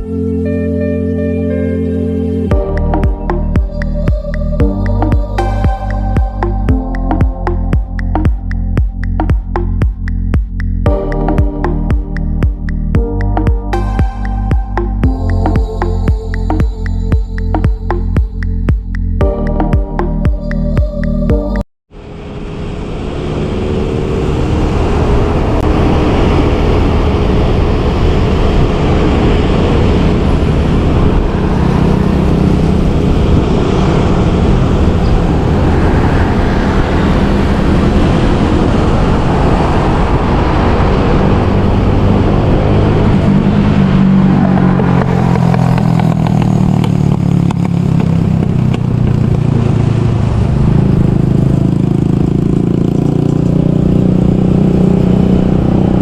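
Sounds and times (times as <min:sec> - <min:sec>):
road and wind noise: 0:00.0 - 0:56.0
motorbike engine running: 0:02.5 - 0:21.6, 0:25.0 - 0:56.0.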